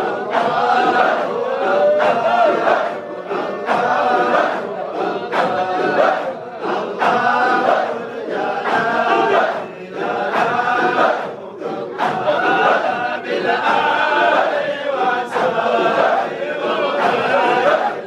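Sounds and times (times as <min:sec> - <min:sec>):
crowd of men chanting: 0:00.0 - 0:18.0.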